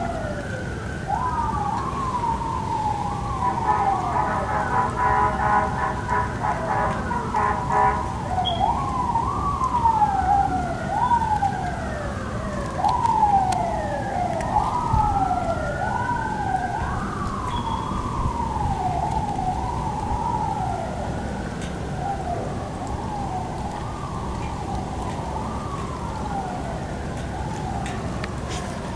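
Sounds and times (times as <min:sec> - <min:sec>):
emergency siren wailing: 0:00.0 - 0:28.9
second siren: 0:00.0 - 0:28.9.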